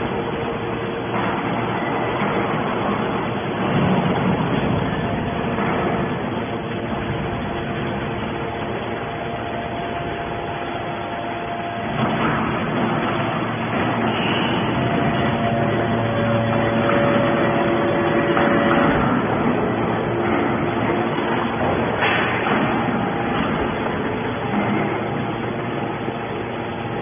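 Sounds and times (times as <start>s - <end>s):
whining tones: 0.3s - 26.5s
scrap metal baler din: 1.1s - 25.3s.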